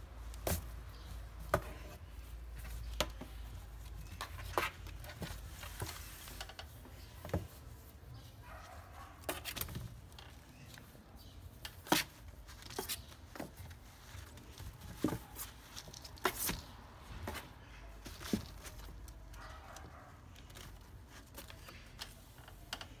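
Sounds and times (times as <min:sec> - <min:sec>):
kitten claws scratching cardboard: 0:00.3 - 0:23.0.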